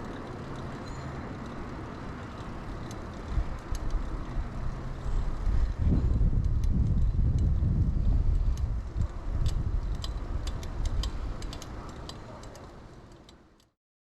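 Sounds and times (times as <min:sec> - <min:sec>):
bike tyres and wind rumble: 0:00.0 - 0:13.7
light clicks and rattles: 0:00.0 - 0:13.7.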